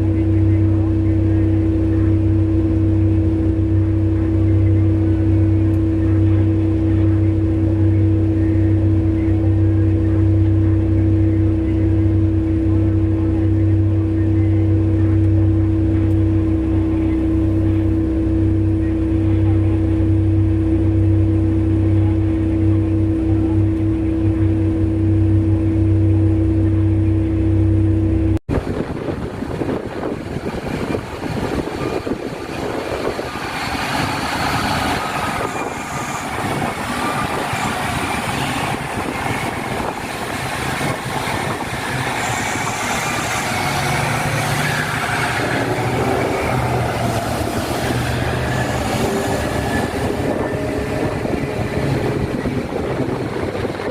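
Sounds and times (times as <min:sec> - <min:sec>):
diesel truck engine drone: 0:00.0 - 0:53.9
machinery rumble with whines: 0:00.0 - 0:53.9.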